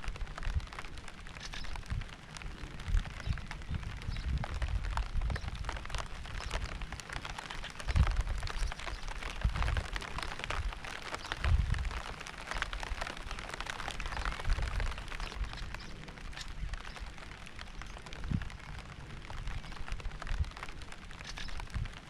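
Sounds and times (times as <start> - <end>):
raindrops ticking: 0.0 - 22.0.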